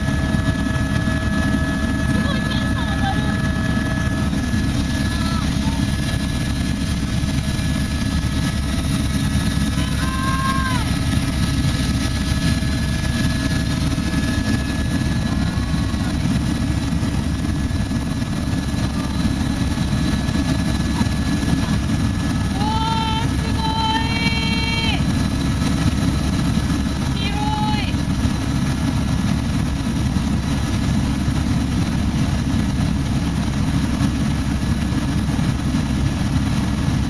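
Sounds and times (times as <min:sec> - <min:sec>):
helicopter engine and rotor noise: 0:00.0 - 0:37.0.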